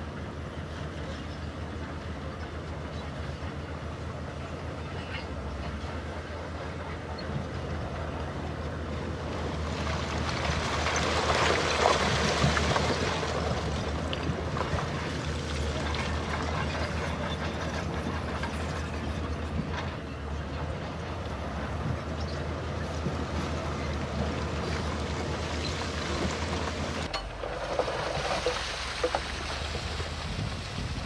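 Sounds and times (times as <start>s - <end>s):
diesel engine low rumble: 0.0s - 31.0s.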